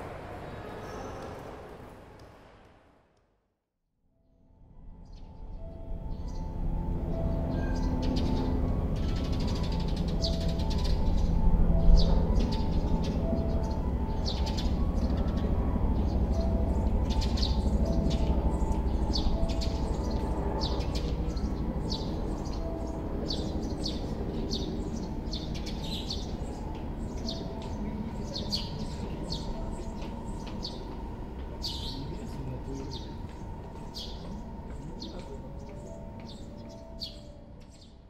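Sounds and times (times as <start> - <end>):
low city rumble: 0.0 - 38.0
small birds chirping: 5.0 - 38.0.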